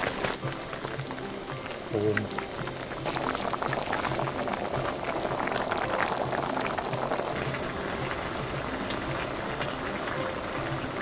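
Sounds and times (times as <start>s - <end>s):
stew boiling and bubbling: 0.0s - 11.0s.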